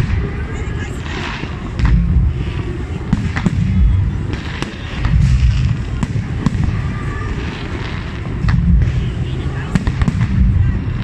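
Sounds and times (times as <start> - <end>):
deep rumble of explosions: 0.0 - 11.0
fireworks bangs and crackles: 0.0 - 11.0.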